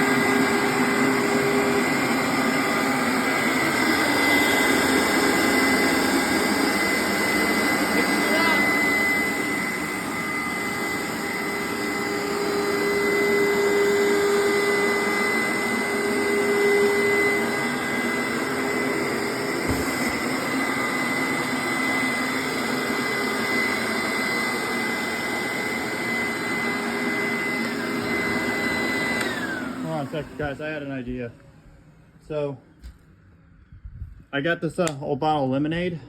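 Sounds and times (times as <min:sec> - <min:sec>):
carpet cleaner motor whining: 0:00.0 - 0:33.6.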